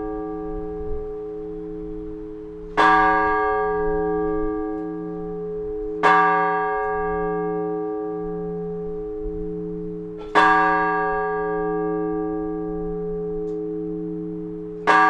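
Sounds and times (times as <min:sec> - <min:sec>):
large church bell ringing: 0:00.0 - 0:15.0.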